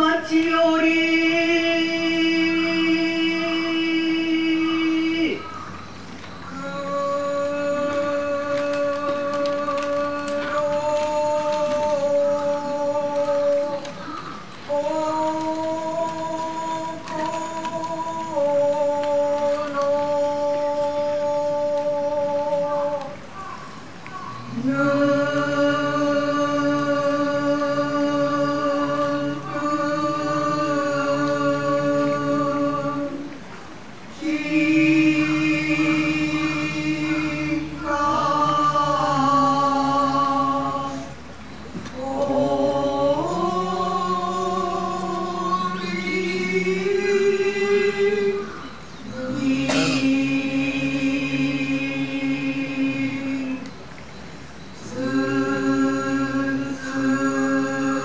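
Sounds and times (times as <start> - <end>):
slow vocal chanting: 0.0 - 58.0.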